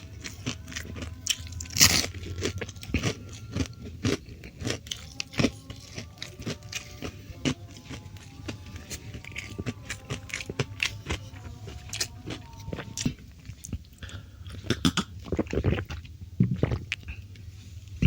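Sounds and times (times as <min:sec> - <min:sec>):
chewing and crunching food: 0:00.0 - 0:18.0.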